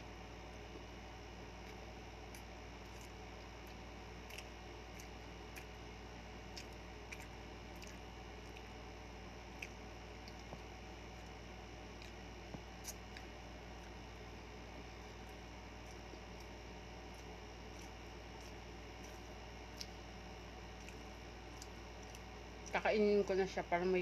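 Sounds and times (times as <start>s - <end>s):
steady low hum: 0.0s - 24.0s
wet chewing clicks and smacks: 1.6s - 14.2s, 15.1s - 22.8s.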